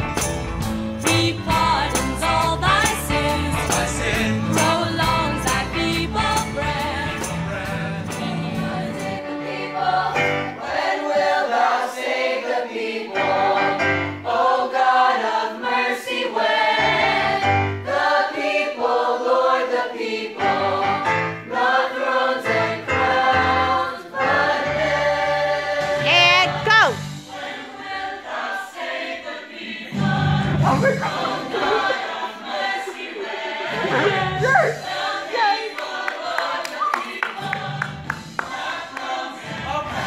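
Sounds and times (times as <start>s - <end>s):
choir singing in harmony: 0.6s - 40.0s.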